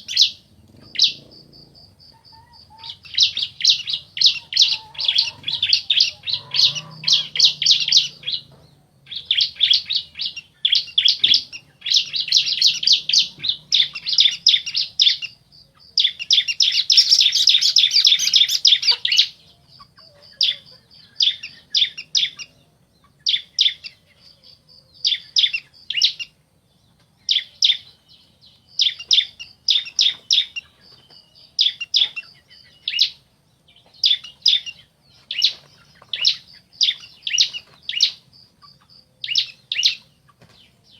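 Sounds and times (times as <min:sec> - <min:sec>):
birds chirping trills: 0:00.0 - 0:40.9.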